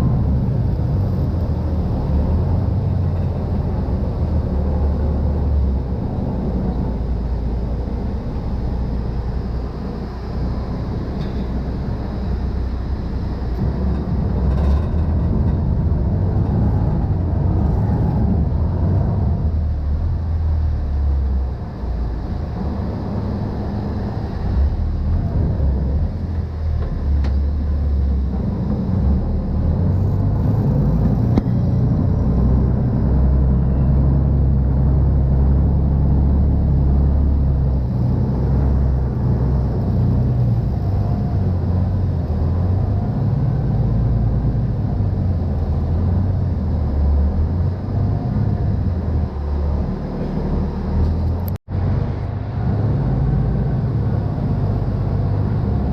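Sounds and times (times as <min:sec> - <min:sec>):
boat engine low rumble: 0:00.0 - 0:55.9.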